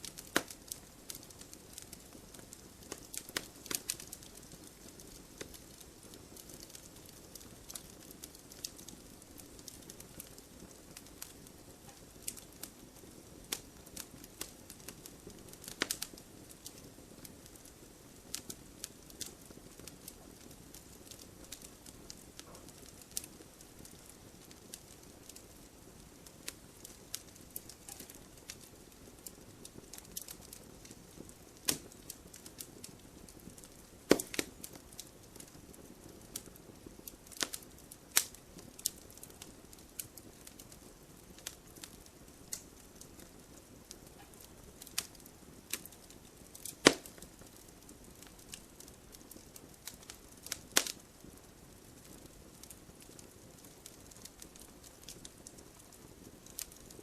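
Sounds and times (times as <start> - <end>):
fire hissing: 0.0 - 55.2
wood fire crackling: 0.0 - 57.0.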